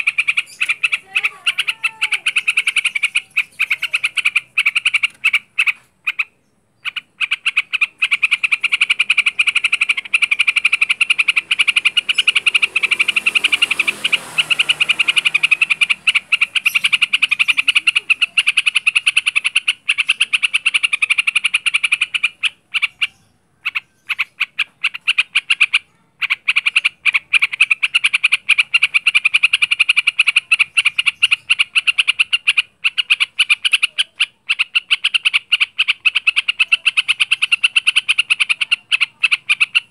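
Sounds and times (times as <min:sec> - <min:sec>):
bird chattering rattle song: 0:00.0 - 0:39.9.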